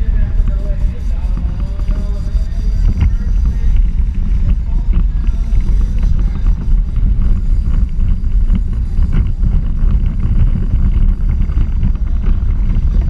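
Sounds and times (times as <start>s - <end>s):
kart rumbling on asphalt: 0.0s - 13.0s
wind buffeting microphone: 0.0s - 13.0s.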